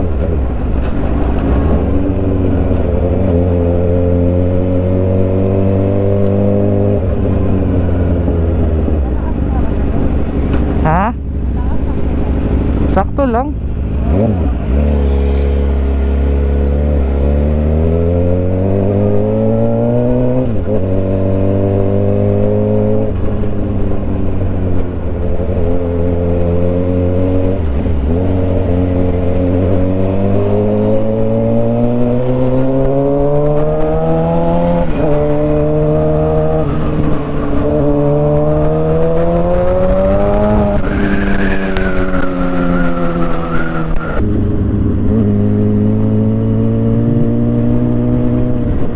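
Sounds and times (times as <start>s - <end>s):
motorcycle engine revving through gears: 0.0s - 48.9s.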